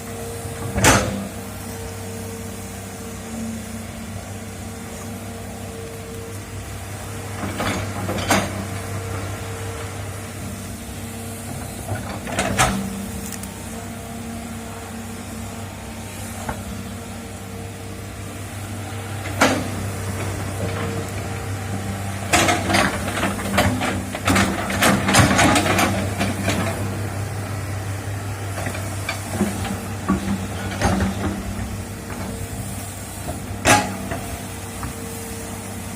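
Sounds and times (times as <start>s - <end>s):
excavator engine running: 0.0s - 35.9s.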